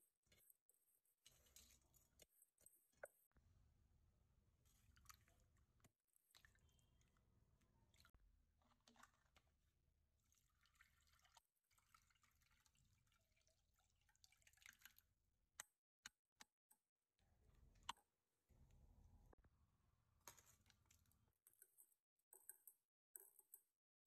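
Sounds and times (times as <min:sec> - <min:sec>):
faint squelching and dripping water: 0:00.0 - 0:03.6, 0:04.3 - 0:23.8.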